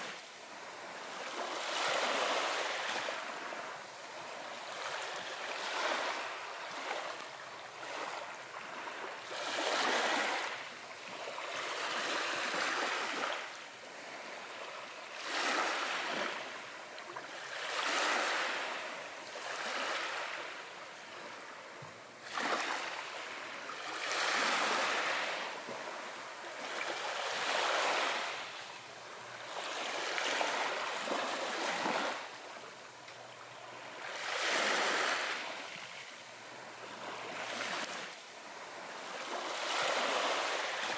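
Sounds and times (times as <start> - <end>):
ocean waves washing in: 0.0 - 16.9, 17.6 - 40.9.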